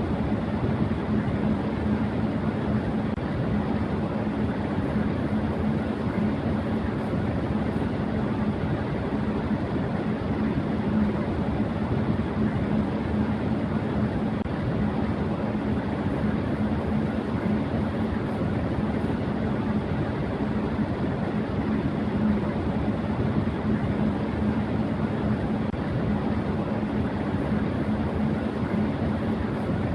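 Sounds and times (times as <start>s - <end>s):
electric fan running: 0.0s - 29.9s.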